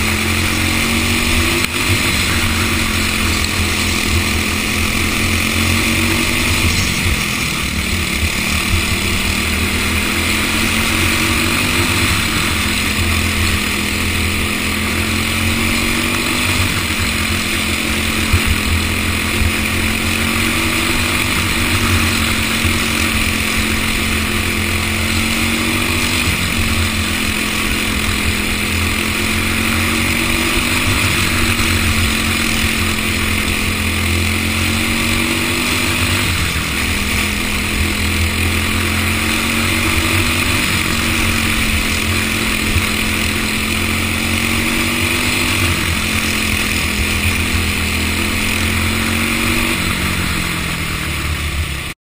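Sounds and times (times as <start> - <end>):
engine running steadily: 0.0 - 52.0.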